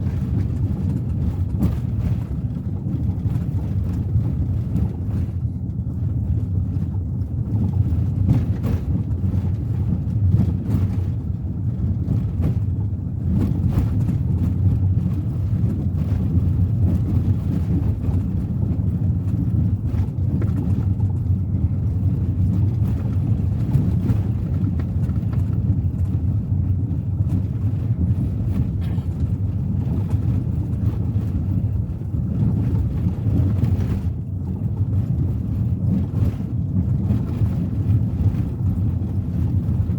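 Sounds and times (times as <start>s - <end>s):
car engine at highway speed: 0.0s - 39.9s.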